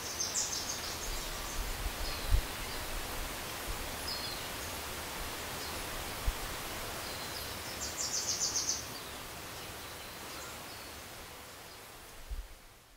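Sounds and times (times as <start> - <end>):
outdoor nature ambience hiss: 0.0 - 12.9.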